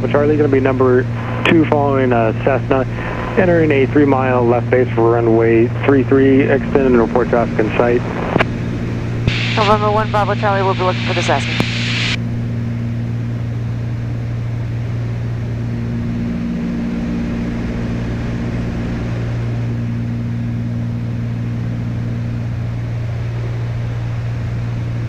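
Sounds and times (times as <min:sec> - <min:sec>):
propeller plane drone in cockpit: 0:00.0 - 0:25.0.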